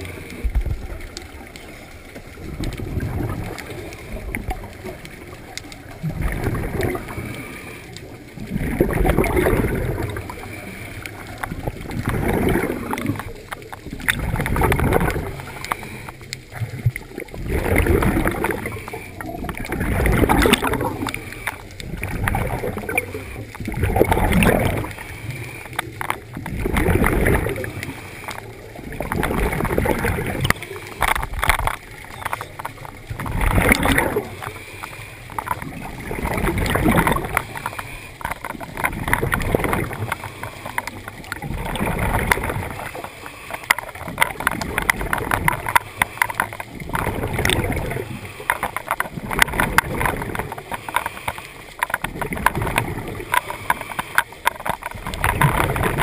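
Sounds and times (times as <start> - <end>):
exhaled bubbles gurgling underwater: 0.0 - 56.0.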